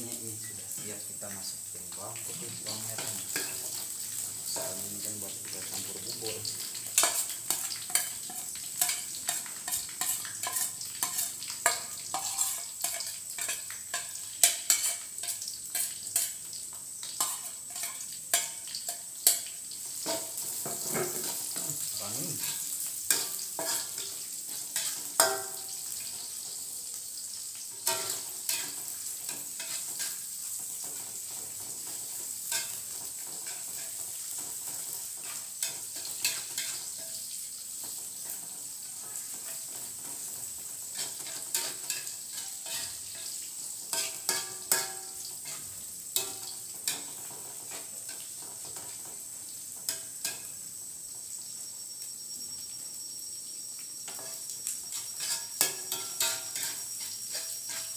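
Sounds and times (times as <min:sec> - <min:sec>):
food sizzling in a wok: 0:00.0 - 0:57.9
spatula scraping a wok: 0:02.2 - 0:51.6, 0:54.0 - 0:57.9.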